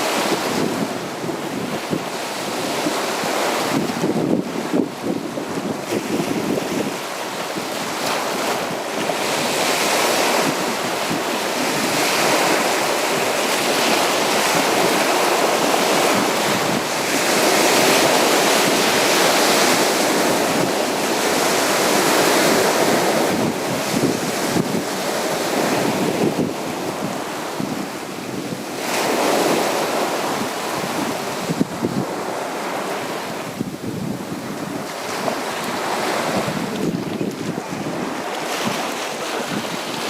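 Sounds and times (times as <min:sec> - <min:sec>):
sea waves breaking on beach: 0:00.0 - 0:40.0.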